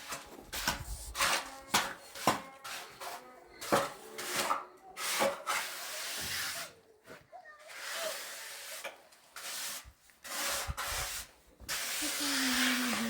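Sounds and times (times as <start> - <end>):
scraping and rubbing strokes: 0.0 - 6.9, 7.5 - 13.0.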